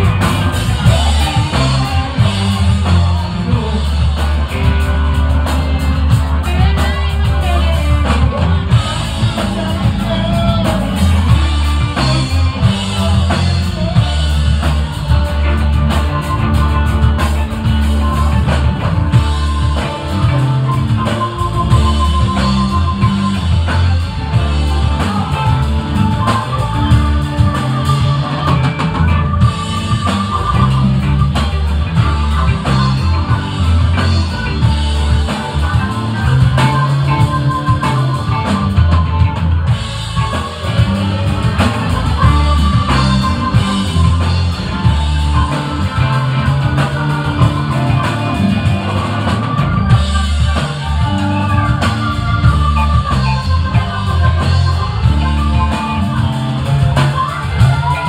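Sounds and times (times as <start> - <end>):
person singing: 0.0 - 39.4, 40.0 - 58.0
drum kit: 0.0 - 58.0
electric guitars: 0.0 - 58.0.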